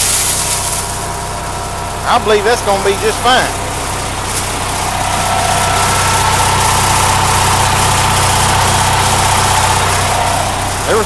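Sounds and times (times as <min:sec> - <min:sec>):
truck engine idling: 0:00.0 - 0:11.0
winch whining: 0:00.0 - 0:11.0.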